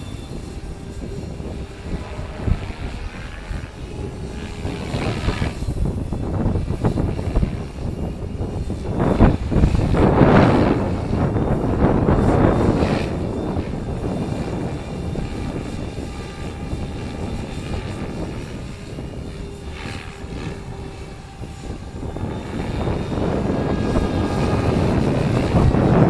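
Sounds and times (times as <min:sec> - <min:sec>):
helicopter rotor tones: 0:00.0 - 0:26.0
wind rumble on microphone: 0:00.0 - 0:26.0.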